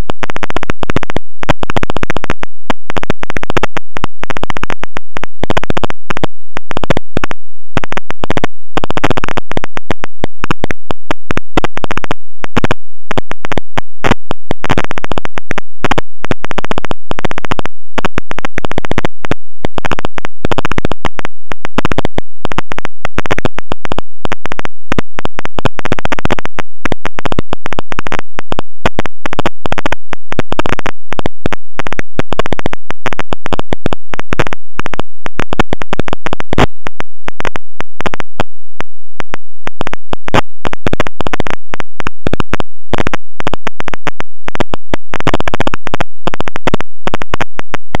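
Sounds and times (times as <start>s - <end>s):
harsh digital buzzing and crackling: 0.0s - 48.0s.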